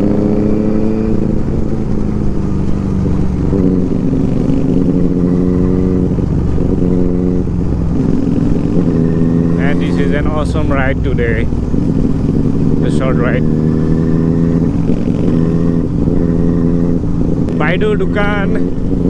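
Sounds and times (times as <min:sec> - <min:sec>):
motorcycle engine running: 0:00.0 - 0:19.0
low rumble: 0:01.1 - 0:19.0.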